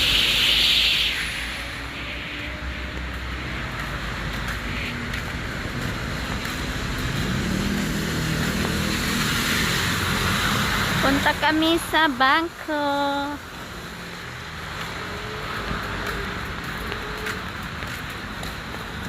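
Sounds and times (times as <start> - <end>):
traffic on wet road: 0.0 - 19.0.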